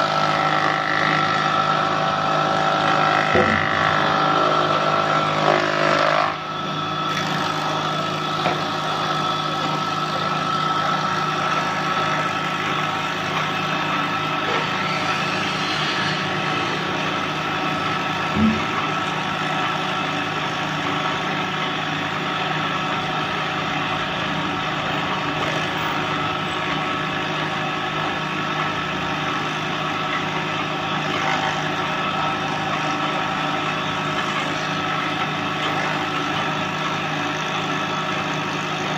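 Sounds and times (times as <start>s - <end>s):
wood planer humming: 0.0s - 38.9s.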